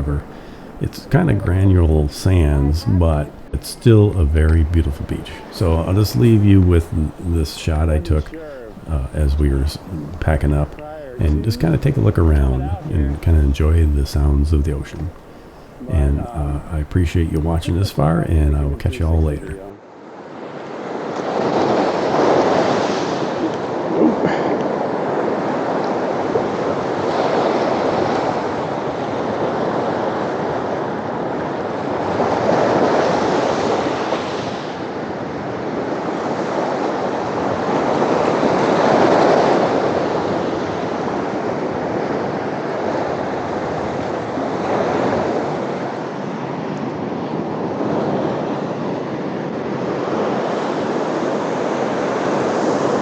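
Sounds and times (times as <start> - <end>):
ocean surf breaking on beach: 0.0 - 53.0.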